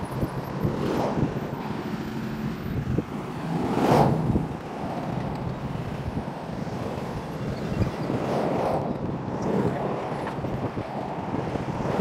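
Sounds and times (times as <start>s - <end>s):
car traffic passing: 0.0s - 12.0s
wind buffeting microphone: 0.0s - 12.0s.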